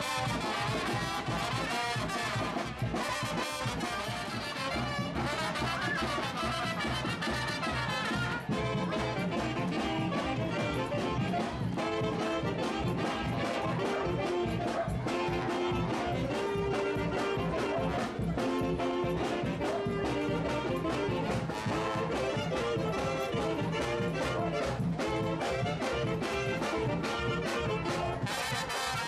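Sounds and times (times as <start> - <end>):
brass band music: 0.0 - 29.0
steady drum beat: 0.0 - 29.0.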